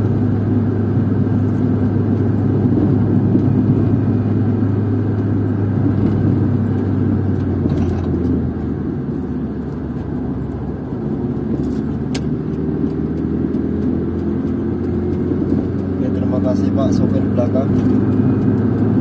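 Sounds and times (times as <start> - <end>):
car engine hum: 0.0 - 19.0
road and tyre noise: 0.0 - 19.0.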